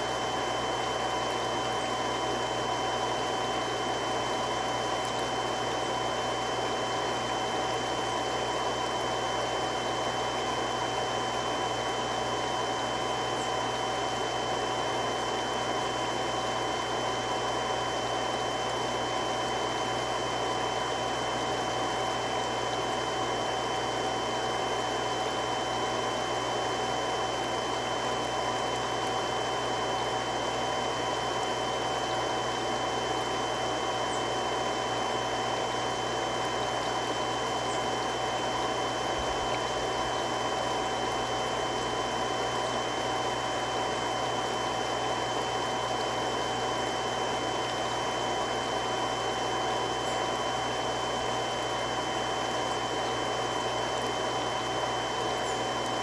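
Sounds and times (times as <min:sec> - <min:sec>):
water pump running: 0:00.0 - 0:56.0.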